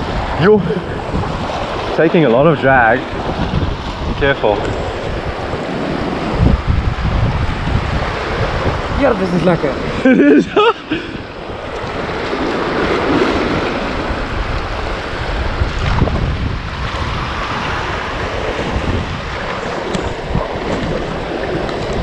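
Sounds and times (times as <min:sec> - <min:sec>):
small waves breaking: 0:00.0 - 0:22.0
wind rumbling on microphone: 0:00.0 - 0:22.0.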